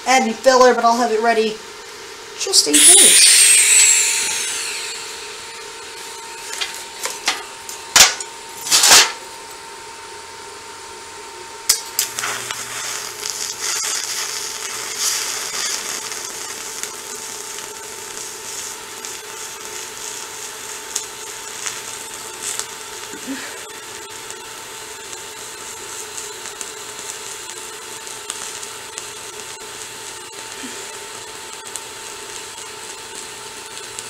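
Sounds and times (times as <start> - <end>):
welding arc hissing and buzzing: 2.5 - 9.4, 11.7 - 34.0.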